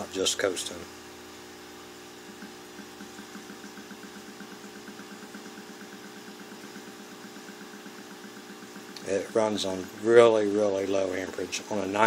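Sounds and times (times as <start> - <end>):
motor rotor ticking: 1.6 - 12.0.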